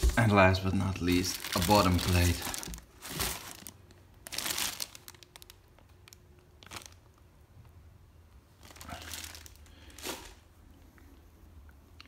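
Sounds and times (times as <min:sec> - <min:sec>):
plastic wrapping crinkling: 0:00.0 - 0:07.8, 0:08.5 - 0:10.5.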